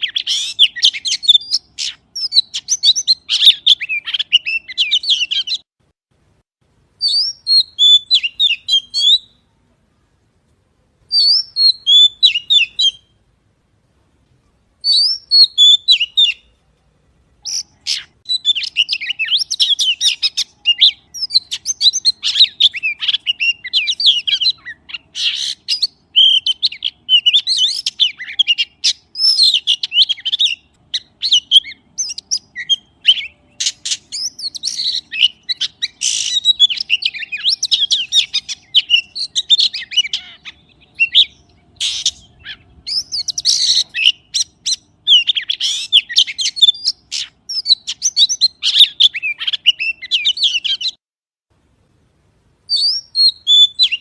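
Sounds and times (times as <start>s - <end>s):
magpie chirps and whistles: 0.0s - 5.7s, 7.0s - 9.4s, 11.1s - 13.2s, 14.8s - 16.5s, 17.4s - 51.0s, 52.7s - 54.0s.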